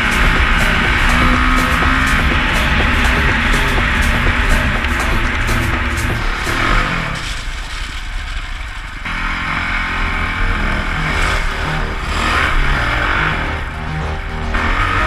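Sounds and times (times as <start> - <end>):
dirt bike engine revving: 0.0 - 15.0
tires on loose gravel: 0.0 - 15.0.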